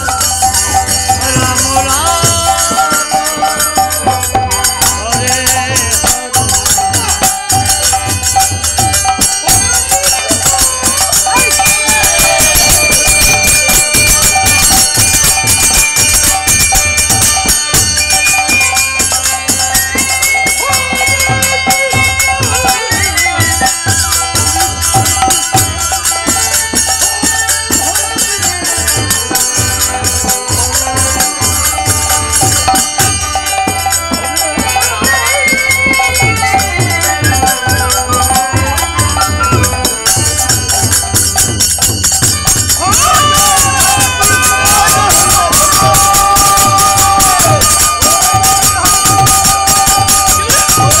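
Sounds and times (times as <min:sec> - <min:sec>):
hand cymbals clashing: 0:00.0 - 0:51.0
hand drum beating: 0:00.0 - 0:51.0.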